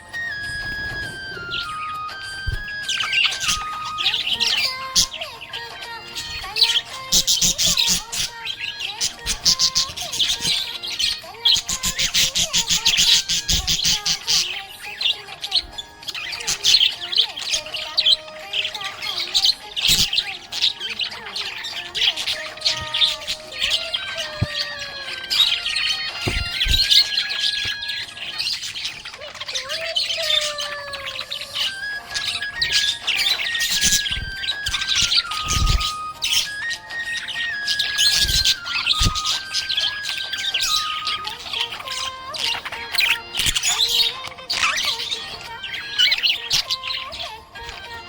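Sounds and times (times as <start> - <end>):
budgerigar chattering: 0.3 - 48.0.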